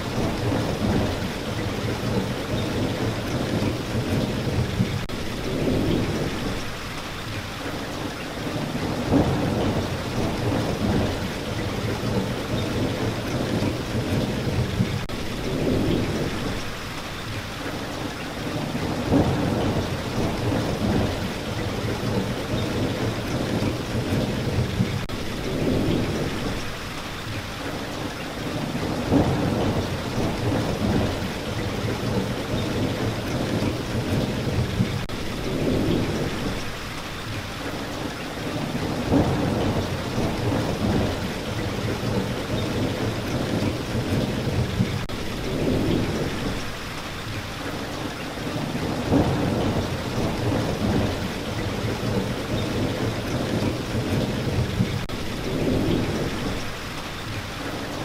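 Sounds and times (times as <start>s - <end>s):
low thunder rumbles: 0.0s - 6.8s, 8.4s - 16.8s, 18.5s - 26.8s, 28.5s - 36.8s, 38.4s - 46.8s, 48.4s - 56.8s
steady rain: 0.0s - 58.0s.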